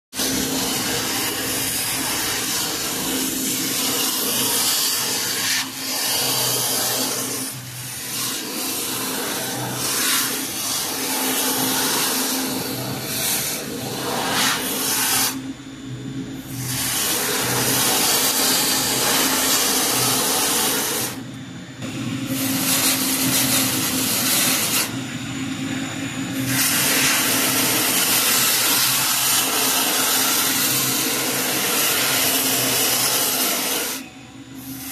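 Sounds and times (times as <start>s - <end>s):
abrasive belt grinding metal: 0.2s - 15.5s, 16.4s - 21.3s, 22.2s - 25.0s, 26.2s - 34.9s
motor hum: 0.2s - 34.9s.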